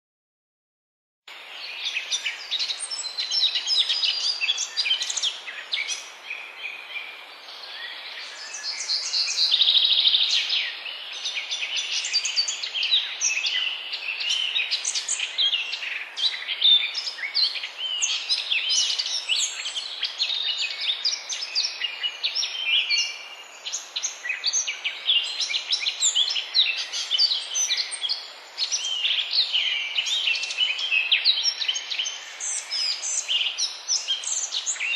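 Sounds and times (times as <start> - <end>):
background hiss: 1.3 - 34.9
songbirds singing and chirping: 1.3 - 34.9.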